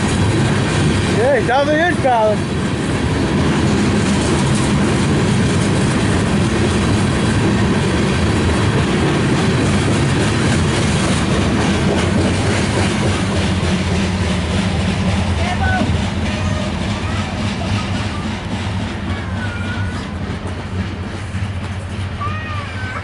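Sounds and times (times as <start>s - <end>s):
freight train cars rumbling past: 0.0s - 23.0s
wheel and rail clatter: 0.0s - 23.0s.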